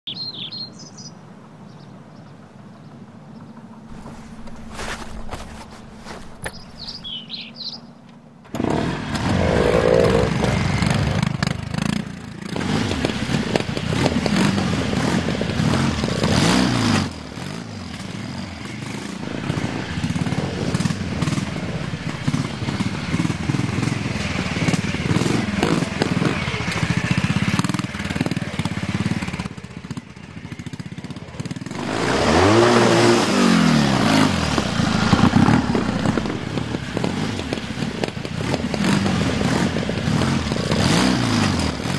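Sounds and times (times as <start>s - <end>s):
motorcycle engines revving: 3.6s - 41.9s.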